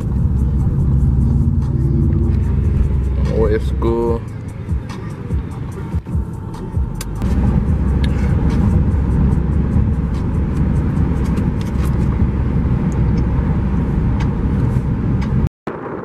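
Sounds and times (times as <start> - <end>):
car road and wind rumble: 0.0 - 16.0.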